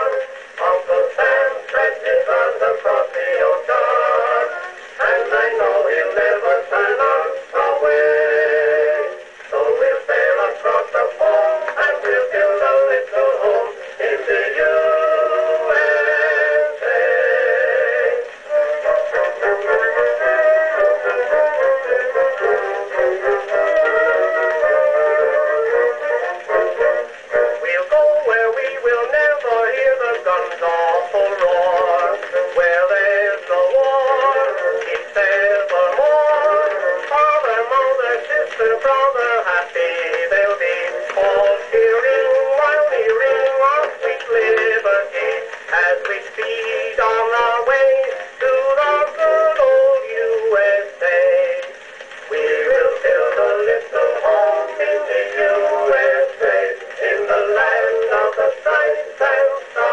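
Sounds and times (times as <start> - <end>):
old recording of song with orchestra: 0.0 - 59.9.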